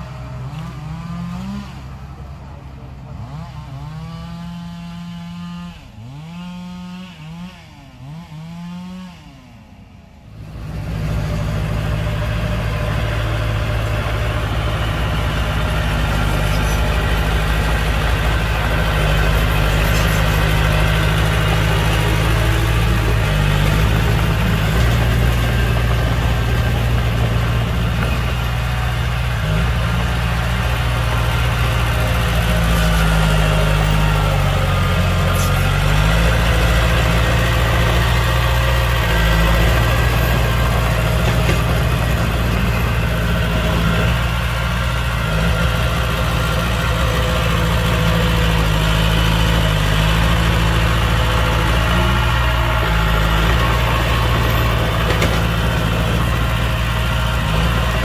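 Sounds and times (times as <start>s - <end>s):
heavy diesel engine running: 0.0s - 8.1s, 10.1s - 58.0s.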